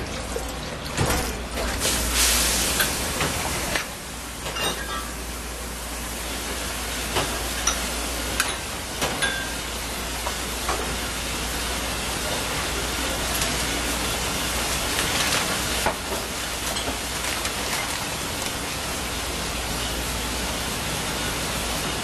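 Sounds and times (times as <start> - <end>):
gas burner flame hissing: 1.2 - 22.0.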